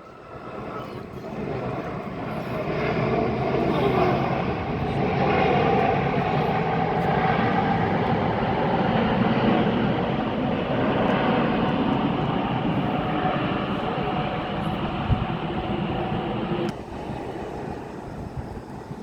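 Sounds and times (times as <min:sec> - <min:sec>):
jet airliner engines roaring: 0:00.0 - 0:19.0.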